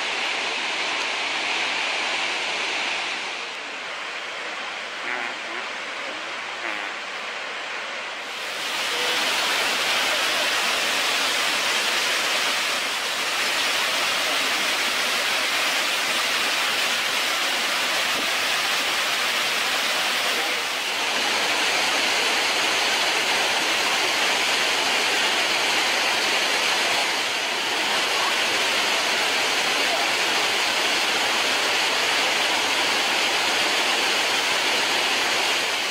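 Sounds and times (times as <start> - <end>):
waterfall rushing over rock: 0.0 - 35.9.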